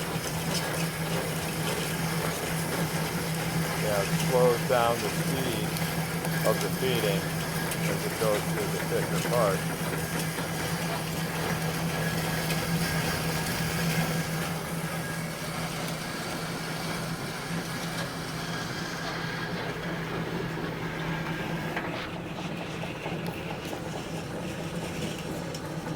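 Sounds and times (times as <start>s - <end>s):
bandsaw motor hum: 0.0s - 25.9s.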